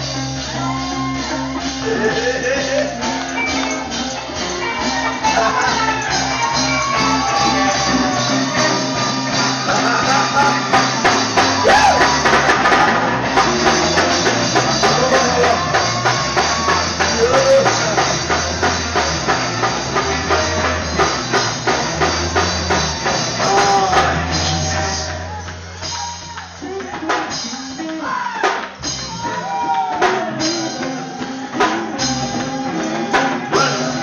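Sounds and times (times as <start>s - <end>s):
drum kit beat: 0.0s - 34.0s
electric guitar: 0.0s - 34.0s
gospel band playing: 0.0s - 34.0s.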